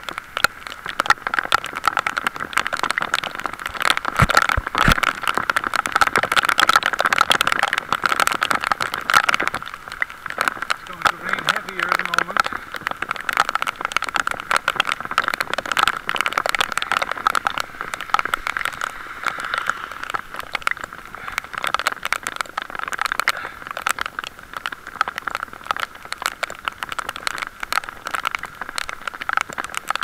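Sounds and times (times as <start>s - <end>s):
heavy rain hitting microphone: 0.0s - 30.0s.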